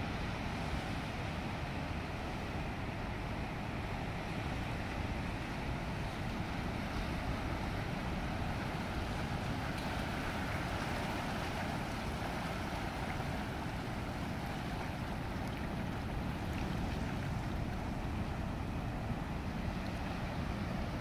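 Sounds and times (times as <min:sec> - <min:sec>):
ocean surf among rocks: 0:00.0 - 0:21.0.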